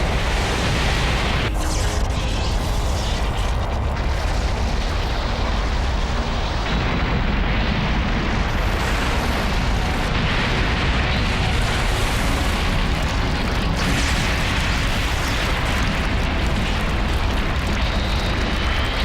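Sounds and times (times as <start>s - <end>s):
deep rumbling explosion: 3.4s - 19.0s.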